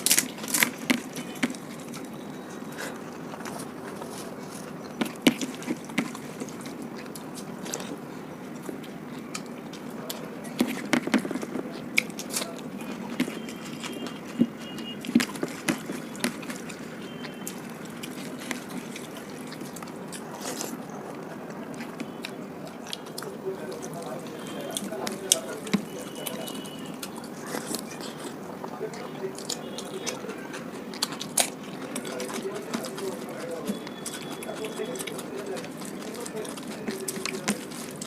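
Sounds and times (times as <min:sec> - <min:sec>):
chewing and wet mouth clicks: 0:00.0 - 0:38.0.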